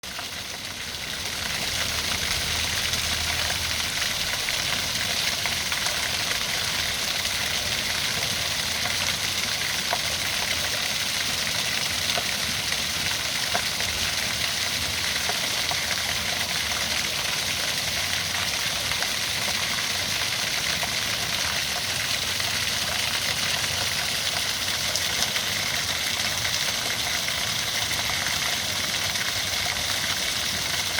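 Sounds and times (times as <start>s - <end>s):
waterfall pouring: 0.0s - 30.9s.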